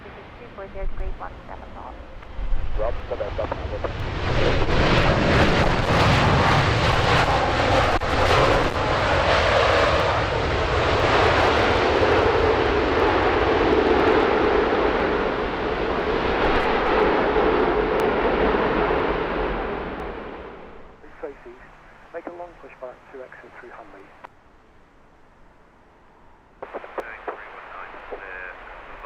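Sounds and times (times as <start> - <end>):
jet engines at takeoff: 0.0 - 24.4, 25.8 - 29.0.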